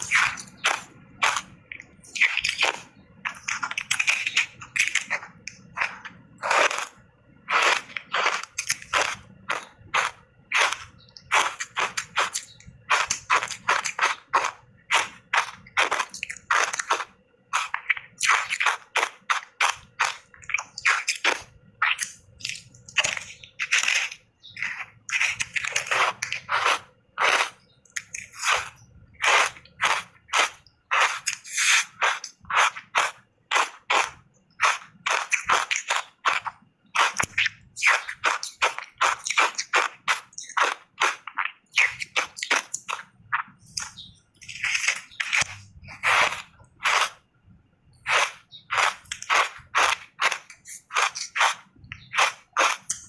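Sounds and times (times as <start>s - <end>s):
ice crunching while chewed: 0.0s - 47.2s, 48.0s - 53.0s.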